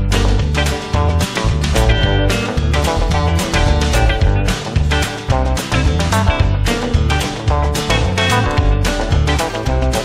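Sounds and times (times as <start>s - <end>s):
bass notes: 0.0s - 10.0s.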